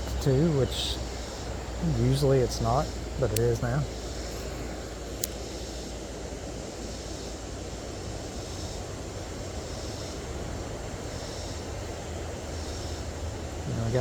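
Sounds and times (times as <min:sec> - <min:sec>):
creek water rushing: 0:00.0 - 0:14.0
faint high insect hum: 0:00.0 - 0:14.0.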